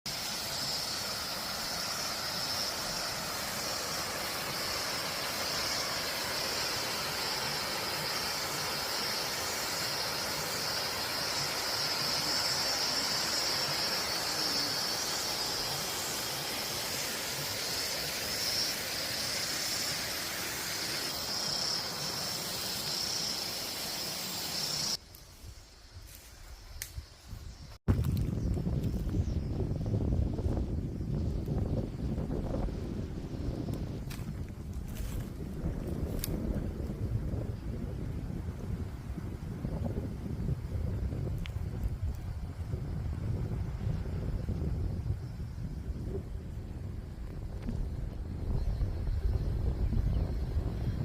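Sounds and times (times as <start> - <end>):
insects trilling: 0.1 - 51.0
outdoor background noise: 0.1 - 51.0.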